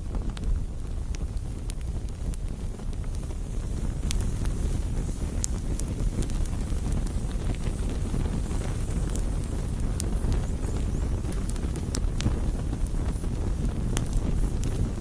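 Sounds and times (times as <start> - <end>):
campfire low rumble: 0.0 - 15.0
fire crackles and pops: 0.0 - 15.0.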